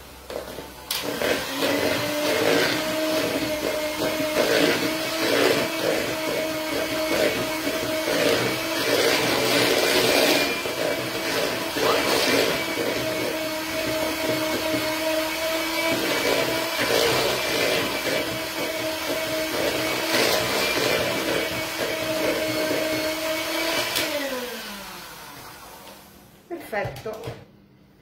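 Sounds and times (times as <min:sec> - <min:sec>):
electric mixer whirring: 0:00.0 - 0:26.4.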